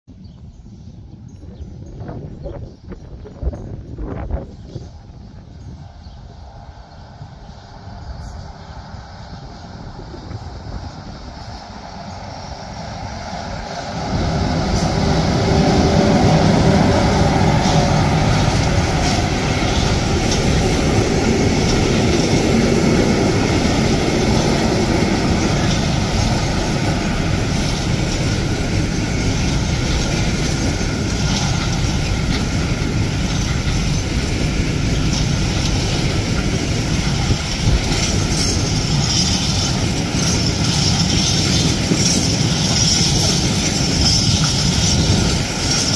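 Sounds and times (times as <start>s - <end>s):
electric locomotive passing: 0.2s - 45.9s
freight cars rolling rumble: 1.5s - 45.9s
high wheel noise: 7.8s - 45.9s.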